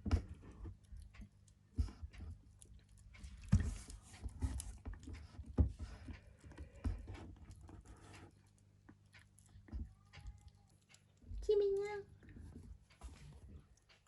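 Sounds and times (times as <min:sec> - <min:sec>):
kitten chewing and licking: 0:00.0 - 0:14.0.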